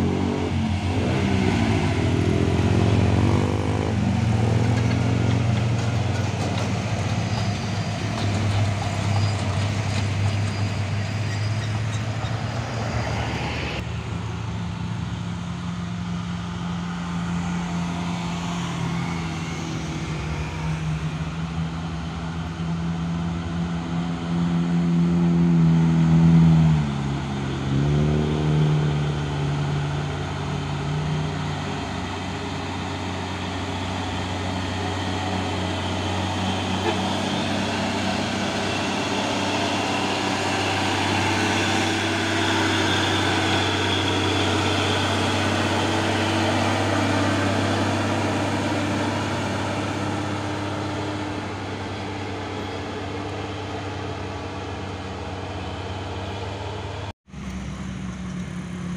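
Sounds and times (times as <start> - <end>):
trucks idling: 0.0 - 24.3, 29.0 - 58.9
heavy truck engine under load: 0.0 - 58.9
passing vehicles: 0.0 - 58.9.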